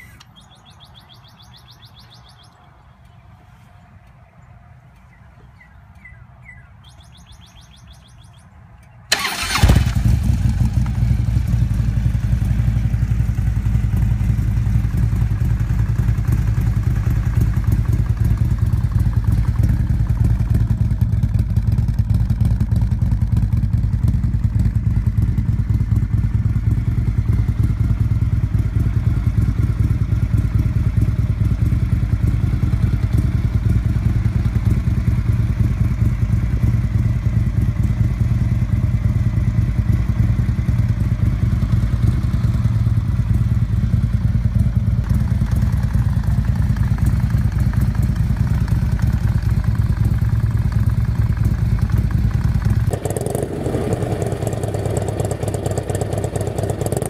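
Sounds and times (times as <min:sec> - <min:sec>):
motorcycle engine idling: 0:09.1 - 0:57.0.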